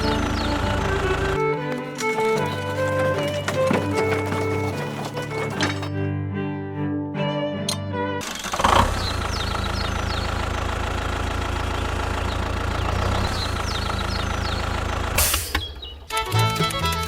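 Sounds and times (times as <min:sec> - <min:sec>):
engine idling: 0:00.0 - 0:05.9, 0:08.2 - 0:16.5.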